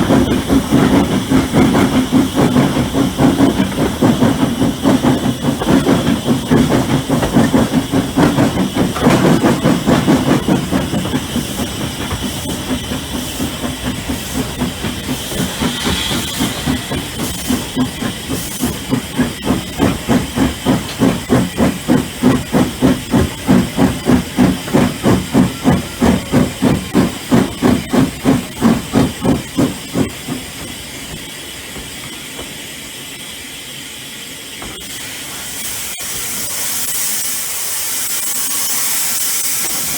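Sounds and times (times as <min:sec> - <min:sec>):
steam hiss: 0:00.0 - 0:39.9
steam locomotive exhaust beats: 0:00.0 - 0:39.9.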